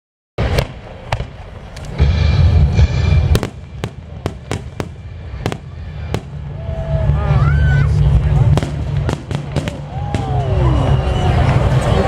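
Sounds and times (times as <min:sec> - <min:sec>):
fireworks bangs: 0:00.4 - 0:06.6, 0:08.0 - 0:11.8
deep rolling rumble: 0:00.4 - 0:12.0.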